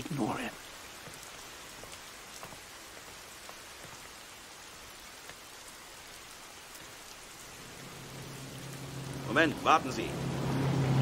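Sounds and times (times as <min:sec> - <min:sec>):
rain on a wet street: 0:00.0 - 0:11.0.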